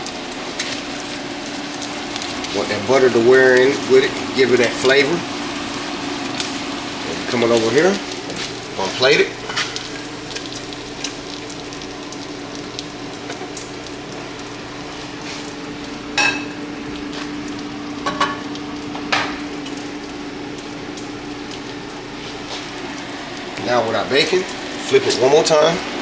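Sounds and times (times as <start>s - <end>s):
bacon sizzling in a pan: 0.0s - 26.0s
steady hum: 0.0s - 26.0s.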